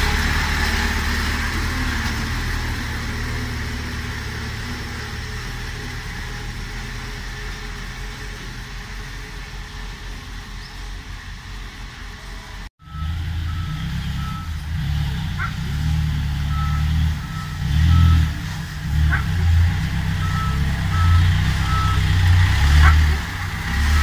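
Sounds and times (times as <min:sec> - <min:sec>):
dump truck diesel engine passing: 0:00.0 - 0:24.0.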